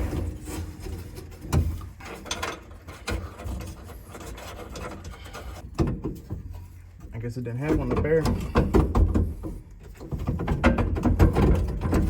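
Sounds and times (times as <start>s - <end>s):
hand tools scraping and clicking: 0.0s - 12.0s.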